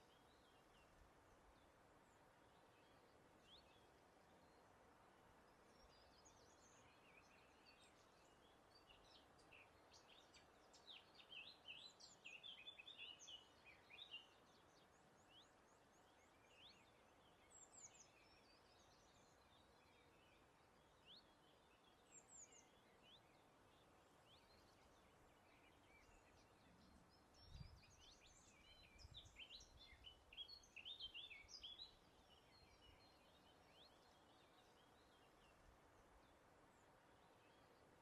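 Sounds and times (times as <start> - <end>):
soft breeze: 0.0 - 38.0.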